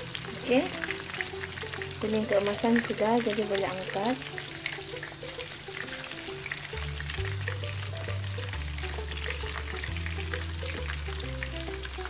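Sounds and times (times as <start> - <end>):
background music with bass line: 0.0 - 12.0
chicken deep-frying in oil: 0.0 - 12.0.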